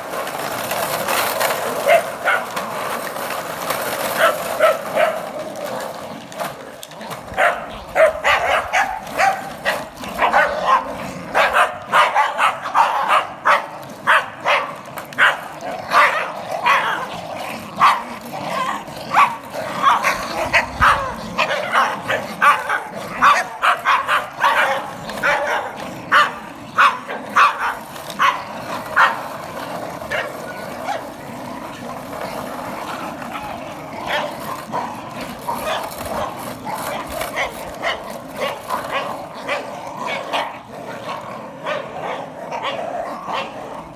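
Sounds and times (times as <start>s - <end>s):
small dogs yapping and barking: 0.8s - 43.9s.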